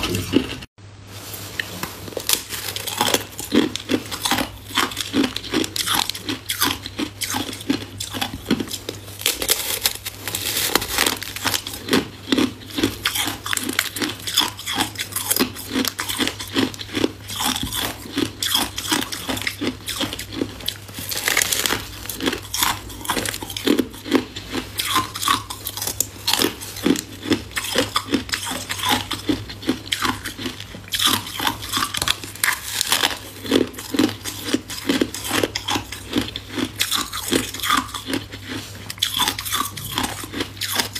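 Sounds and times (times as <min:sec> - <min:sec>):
person crunching ice: 0:02.2 - 0:40.9.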